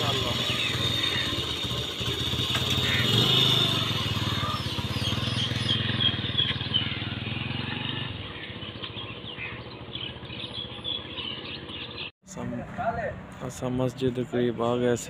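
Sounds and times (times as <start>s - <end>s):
motorcycle engine pulling away: 0.0s - 12.1s.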